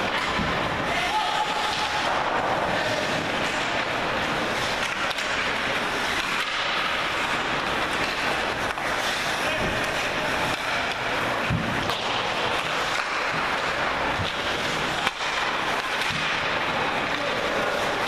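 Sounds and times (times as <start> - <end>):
murmur of spectators: 0.0 - 18.0
skates scraping ice: 0.0 - 18.0
steady noisy rush: 0.0 - 18.0.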